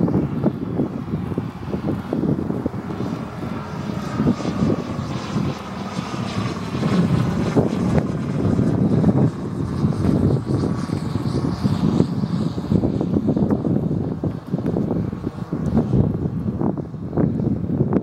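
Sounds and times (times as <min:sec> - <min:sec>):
model plane engine droning: 0:00.0 - 0:18.0.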